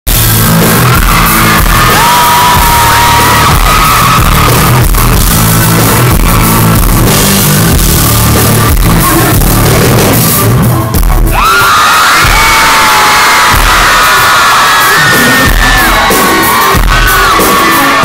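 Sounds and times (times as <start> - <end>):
fans screaming: 0.1 - 8.4, 11.2 - 18.0
live band with guitars: 0.1 - 18.0.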